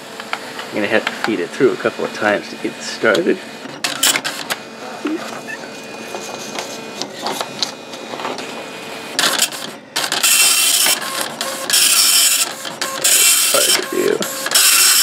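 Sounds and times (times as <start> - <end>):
faint steady whine of paper feed: 0.0 - 15.0
printer clicking and whirring: 0.1 - 15.0
dot-matrix printhead printing: 0.2 - 15.0.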